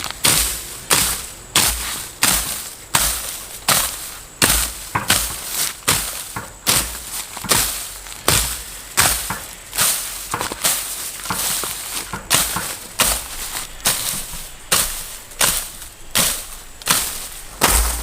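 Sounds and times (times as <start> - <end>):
chopping blows: 0.0 - 18.0.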